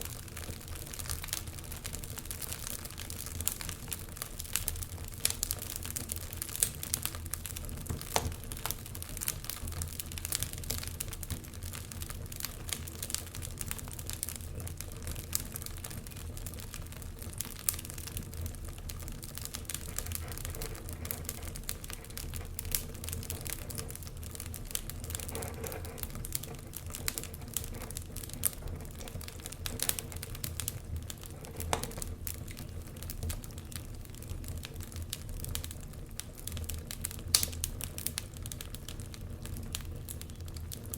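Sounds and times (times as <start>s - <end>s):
fire low rumble: 0.0s - 40.9s
wood fire crackling: 0.0s - 40.9s.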